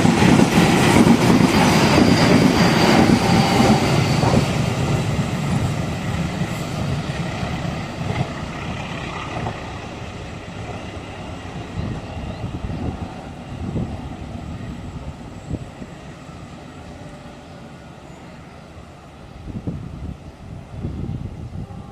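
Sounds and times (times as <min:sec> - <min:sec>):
diesel train passing: 0:00.0 - 0:21.9.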